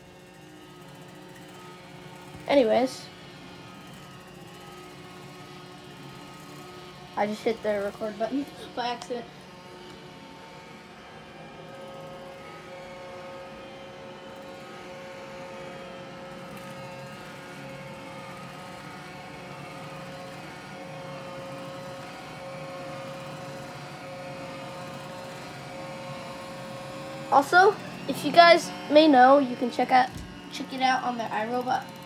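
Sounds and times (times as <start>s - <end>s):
robot vacuum motor hum and whine: 0.0s - 32.0s.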